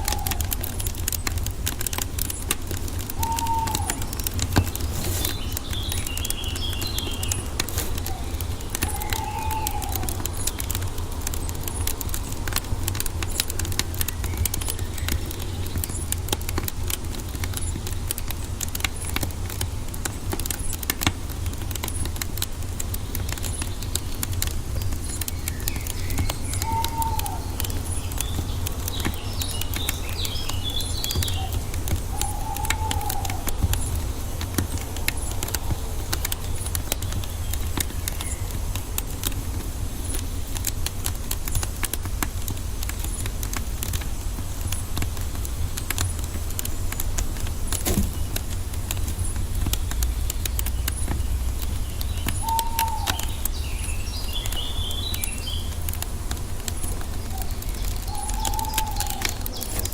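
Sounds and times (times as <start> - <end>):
bird calls and chirps: 0.0 - 22.2, 23.0 - 44.9, 47.5 - 59.9
wood fire crackling: 0.0 - 59.9.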